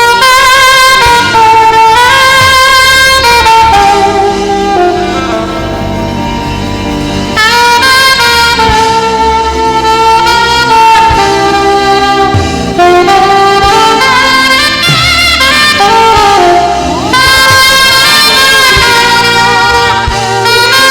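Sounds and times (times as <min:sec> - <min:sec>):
instrumental accompaniment: 0:00.0 - 0:20.9
saxophone slow gospel melody: 0:00.0 - 0:20.9.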